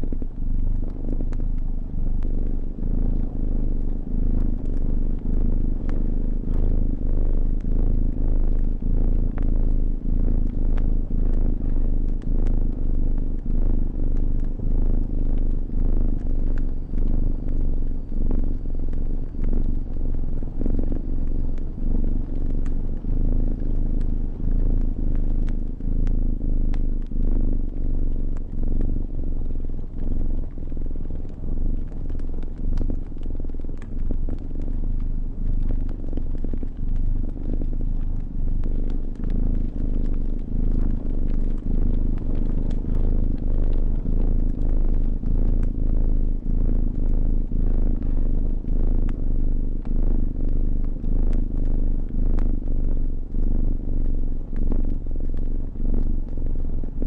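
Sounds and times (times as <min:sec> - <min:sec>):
wood fire crackling: 0:00.0 - 0:47.6
cat purring: 0:00.0 - 0:57.0.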